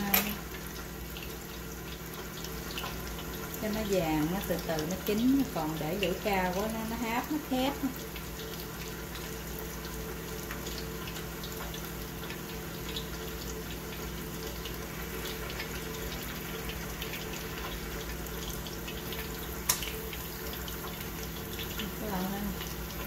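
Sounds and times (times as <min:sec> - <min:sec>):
oil sizzling and crackling: 0:00.0 - 0:23.0.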